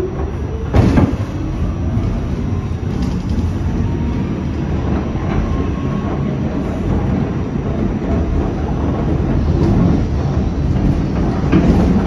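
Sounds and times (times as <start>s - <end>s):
subway car rumbling on track: 0.0s - 12.0s.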